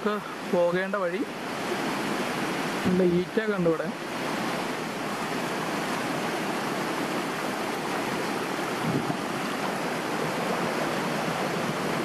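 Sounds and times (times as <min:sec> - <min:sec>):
water flowing over rocks: 0:00.0 - 0:12.0.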